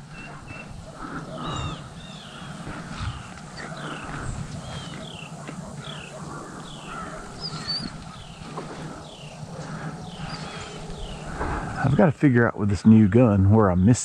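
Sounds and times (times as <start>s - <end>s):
warbled bird chirp: 0.0s - 11.8s.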